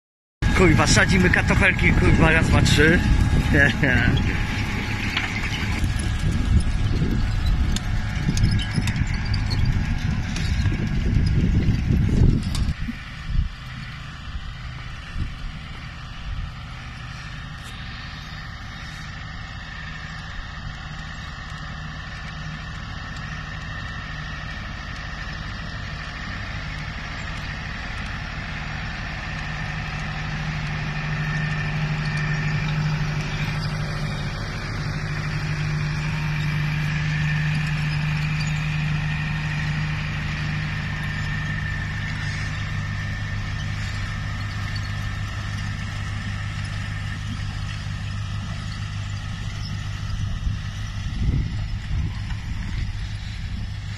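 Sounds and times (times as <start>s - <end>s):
tractor diesel engine running: 0.4s - 53.9s.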